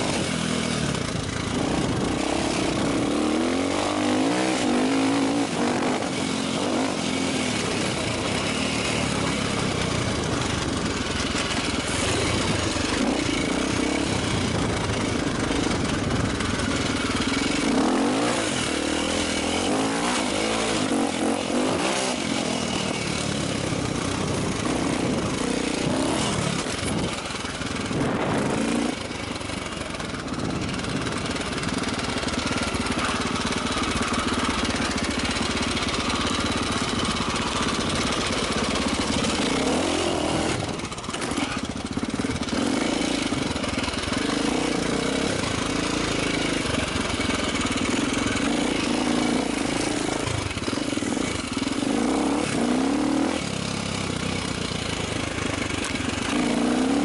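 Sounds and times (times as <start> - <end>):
motorcycle engine revving off-road: 0.0 - 57.0.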